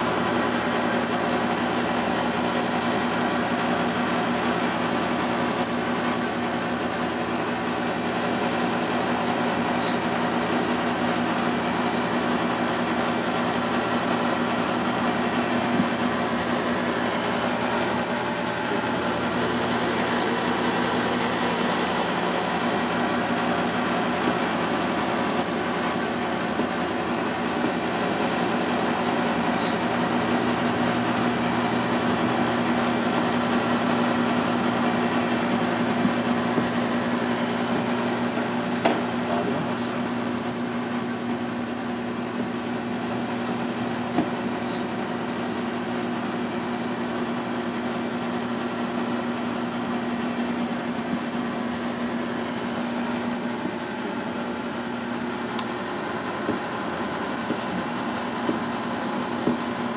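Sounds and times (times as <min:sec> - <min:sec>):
kitchen machinery drone: 0:00.0 - 0:59.9.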